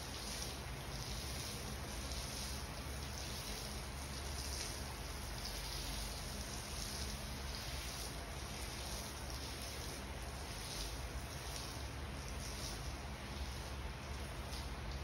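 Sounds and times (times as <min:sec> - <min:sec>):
water pouring onto rug: 0:00.0 - 0:15.0.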